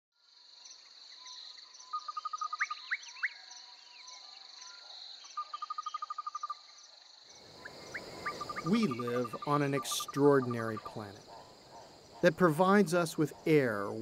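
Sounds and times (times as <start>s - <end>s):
crickets chirping: 0.2s - 14.0s.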